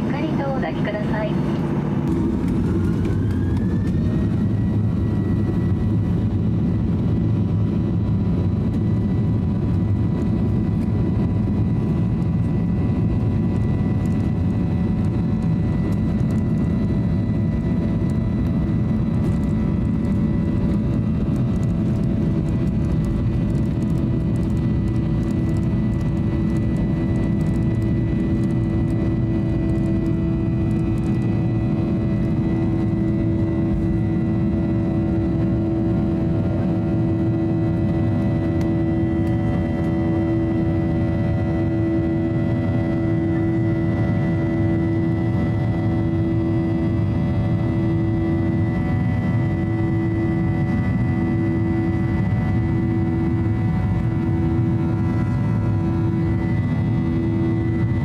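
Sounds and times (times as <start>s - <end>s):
engine whine: 0.0s - 58.0s
jet engine rumble: 0.0s - 58.0s
low hum: 0.0s - 58.0s.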